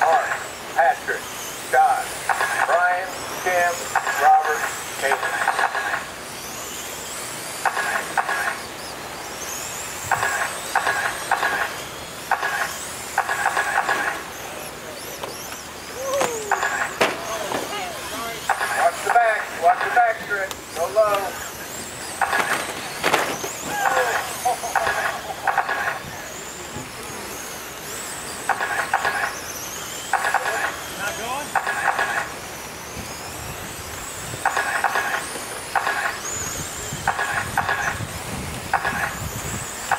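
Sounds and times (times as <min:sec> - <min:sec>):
electric motors whining: 0:00.0 - 0:39.9
short buzzing squeals: 0:00.0 - 0:39.9.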